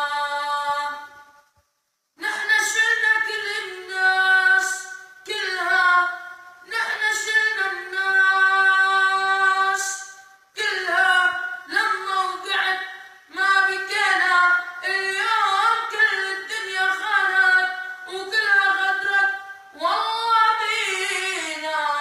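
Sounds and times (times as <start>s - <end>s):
person singing unaccompanied: 0.0s - 1.4s, 2.2s - 22.0s.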